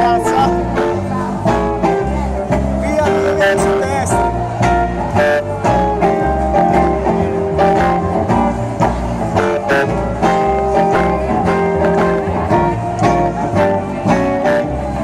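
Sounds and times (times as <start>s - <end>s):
guitar chords plucked: 0.0s - 15.0s
upright bass line: 0.0s - 15.0s.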